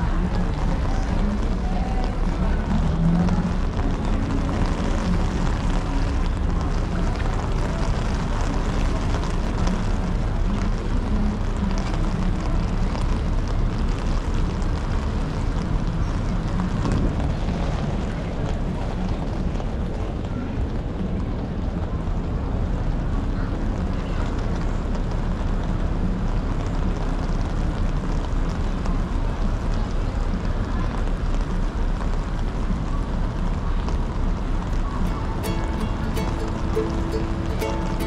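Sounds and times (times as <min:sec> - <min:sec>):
faint low engine hum: 0:00.0 - 0:38.0.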